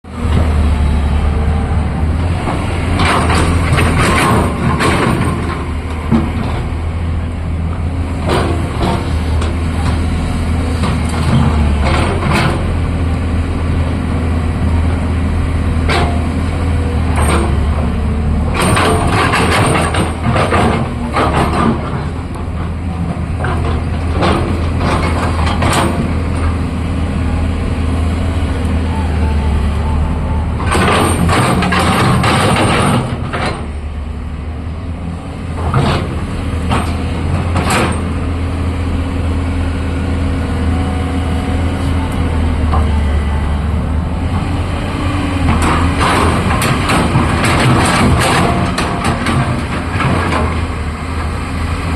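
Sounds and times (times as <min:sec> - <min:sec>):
excavator diesel engine droning: 0:00.0 - 0:51.9.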